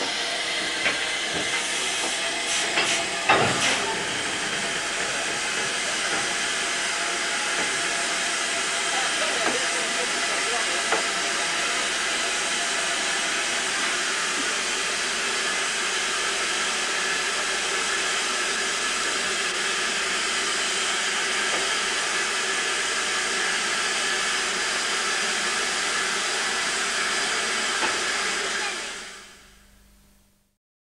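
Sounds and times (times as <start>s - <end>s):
steam hissing from locomotive: 0.0s - 29.4s.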